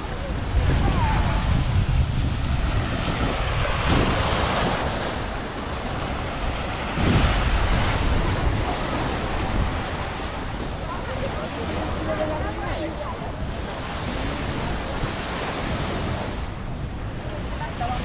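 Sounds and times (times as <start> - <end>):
waves washing onto beach: 0.0 - 18.0
wind buffeting microphone: 0.0 - 18.0.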